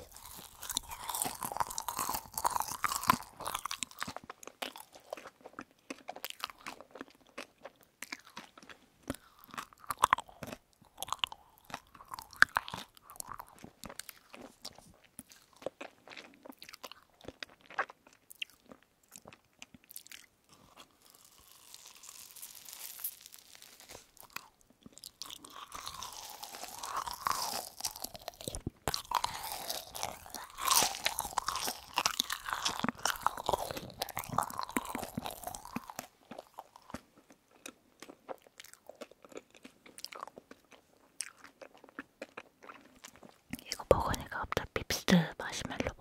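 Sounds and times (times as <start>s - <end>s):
sticky wet mouth sounds: 0.0s - 21.0s, 23.9s - 37.1s, 37.7s - 46.0s
sugar granules crunching: 0.0s - 44.4s
chewing jelly candy: 0.0s - 46.0s.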